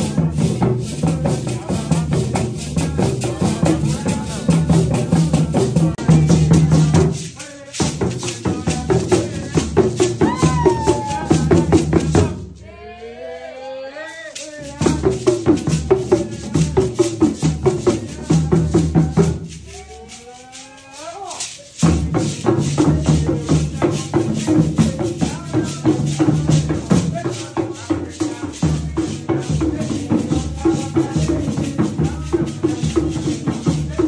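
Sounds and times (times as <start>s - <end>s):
hand drums beating: 0.0s - 12.5s, 14.4s - 34.0s
voices singing: 0.0s - 34.0s.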